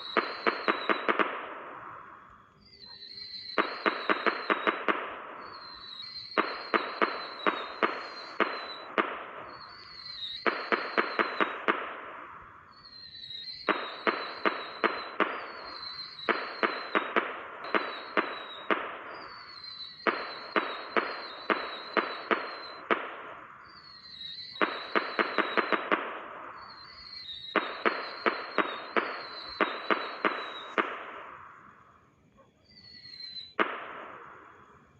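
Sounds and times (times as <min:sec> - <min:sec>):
firework cracks and crackle: 0:00.0 - 0:31.9, 0:33.0 - 0:34.9
firework rocket whistle: 0:00.0 - 0:34.9.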